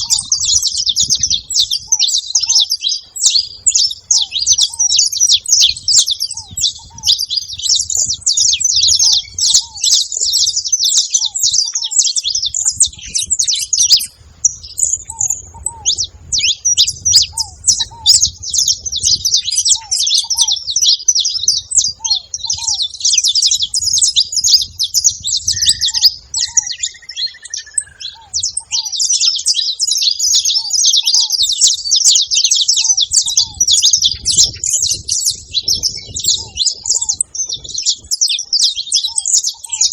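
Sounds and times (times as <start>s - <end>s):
finches chattering: 0.0s - 39.9s.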